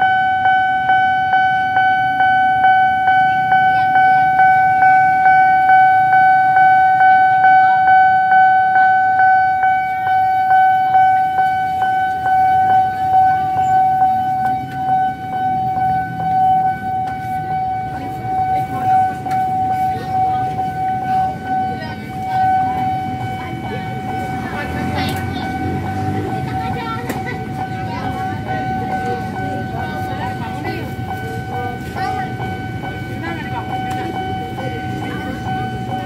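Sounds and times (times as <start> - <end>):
level crossing alarm tone: 0.0 - 36.0
motorbike engines idling: 0.0 - 36.0.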